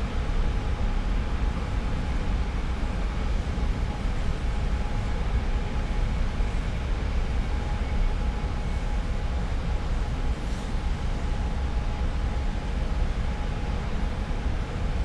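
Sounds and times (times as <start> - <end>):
faint steady hum tones: 0.0 - 15.0.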